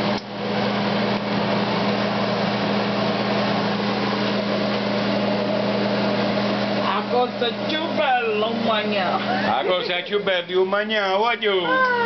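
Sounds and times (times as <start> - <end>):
mechanical hum with hiss: 0.0 - 12.0.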